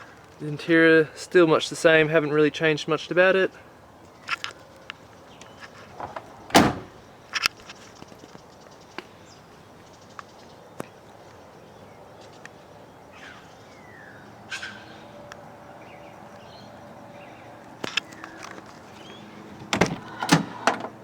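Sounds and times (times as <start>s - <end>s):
birds chirping: 1.4s - 21.0s.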